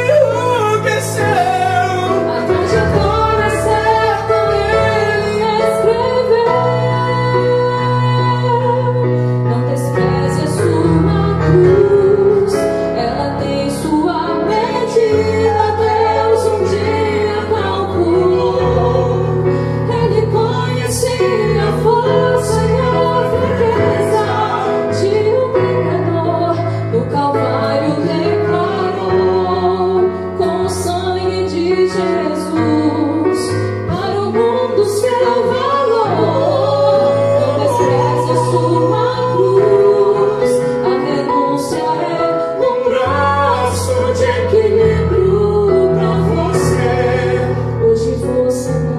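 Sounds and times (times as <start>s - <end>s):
woman and man singing gospel duet: 0.0s - 48.9s.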